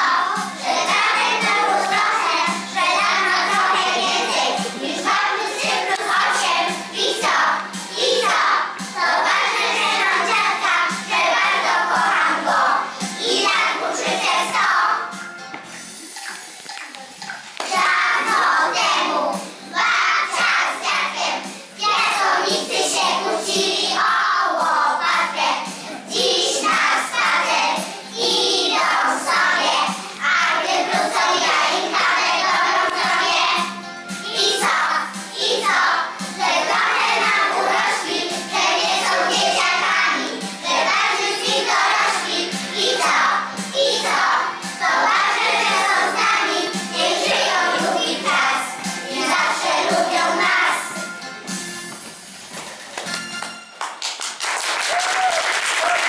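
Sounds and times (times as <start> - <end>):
children singing together: 0.0 - 15.2, 17.6 - 51.2.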